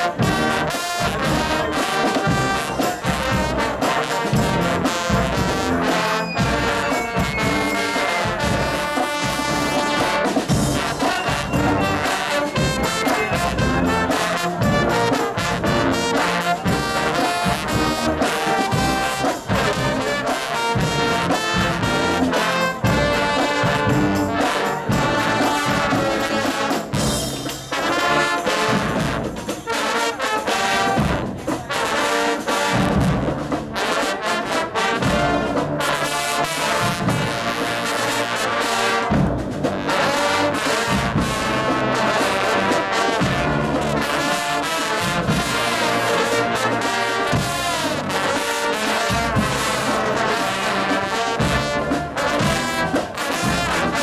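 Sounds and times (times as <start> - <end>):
low brass choir playing chords: 0.0 - 27.1, 27.7 - 54.0.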